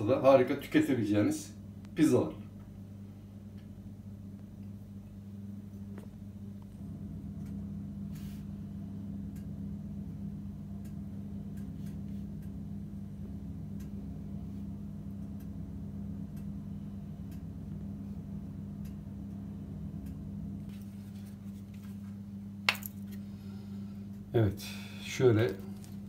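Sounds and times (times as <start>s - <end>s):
oven humming: 0.0s - 26.0s.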